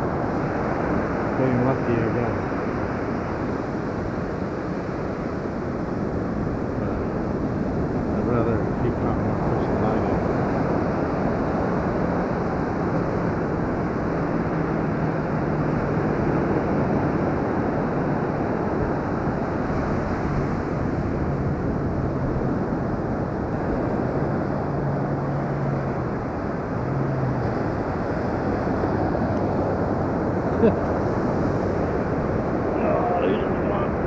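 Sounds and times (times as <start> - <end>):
surf washing up beach: 0.0 - 34.0
wind on microphone: 0.0 - 34.0.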